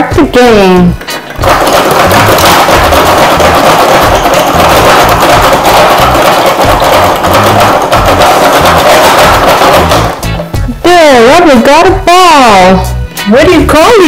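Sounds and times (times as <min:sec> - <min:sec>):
music with percussive beat: 0:00.0 - 0:13.9.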